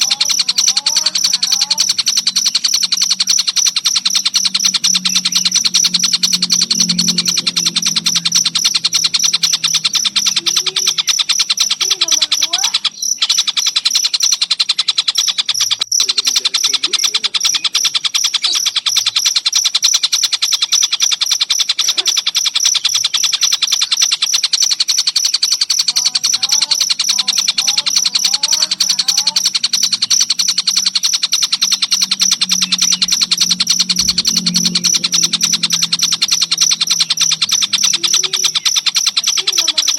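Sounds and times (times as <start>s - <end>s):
crickets chirping: 0.0s - 39.9s
kingfisher gliding calls: 0.0s - 39.9s.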